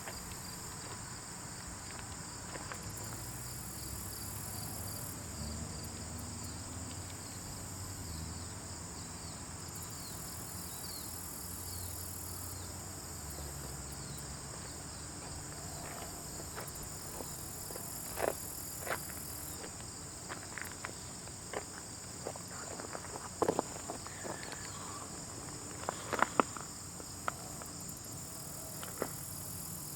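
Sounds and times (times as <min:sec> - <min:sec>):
insect chorus: 0:00.0 - 0:29.9.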